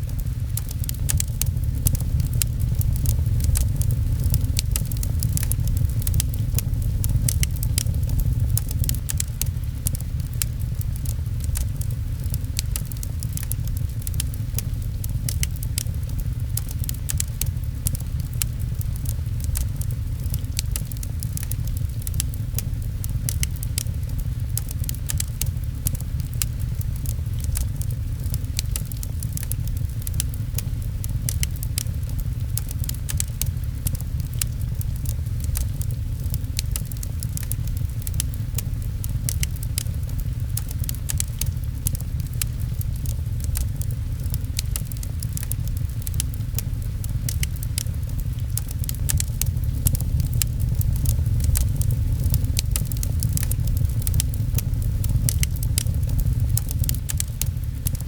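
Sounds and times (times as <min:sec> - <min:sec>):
fireplace crackling and popping: 0:00.0 - 0:58.0
low rumble: 0:00.0 - 0:58.0
rain on a window: 0:00.0 - 0:58.0.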